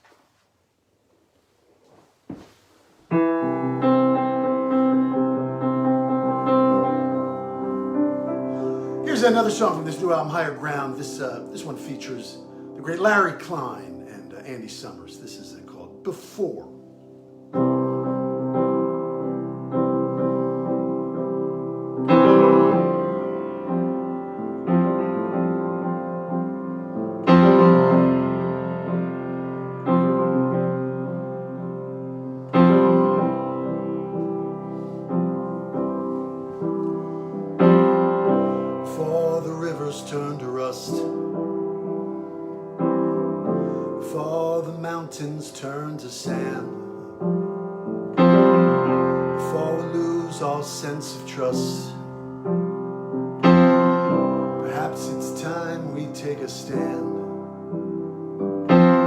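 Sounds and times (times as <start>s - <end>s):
piano chords ringing: 3.1s - 59.0s.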